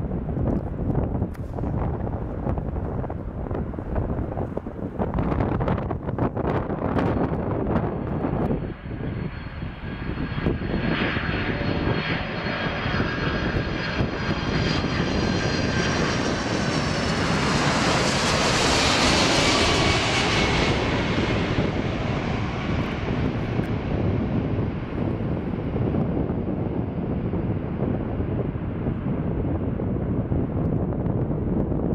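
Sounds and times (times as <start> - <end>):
jet plane passing overhead: 0.0 - 31.9.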